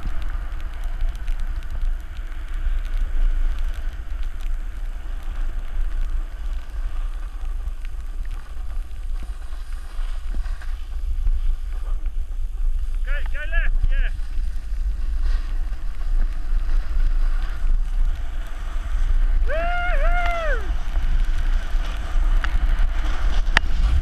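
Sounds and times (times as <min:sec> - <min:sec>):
snowboard scraping over snow: 0:00.0 - 0:24.0
wind rushing over microphone: 0:00.0 - 0:24.0.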